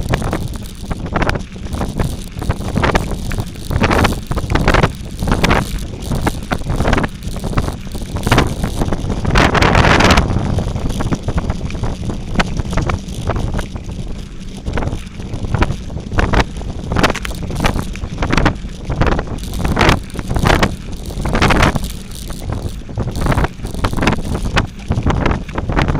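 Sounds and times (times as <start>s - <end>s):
low rumble: 0.0s - 25.9s
wind buffeting microphone: 0.0s - 25.9s.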